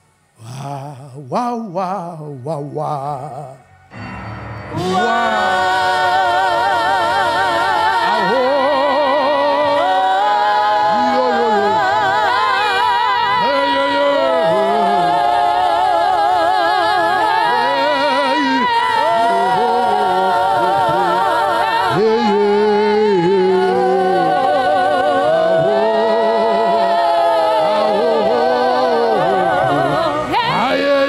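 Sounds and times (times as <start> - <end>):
voices singing with vibrato: 0.0 - 31.0.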